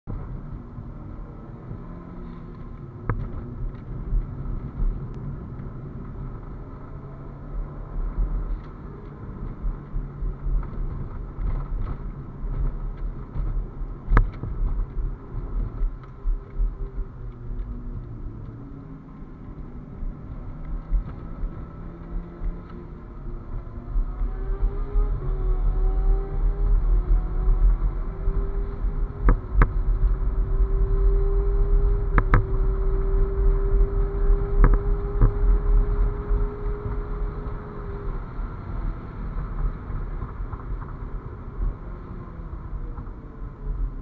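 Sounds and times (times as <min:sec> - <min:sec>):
low road noise rumble: 0:00.0 - 0:44.0
car engine revving: 0:00.2 - 0:44.0.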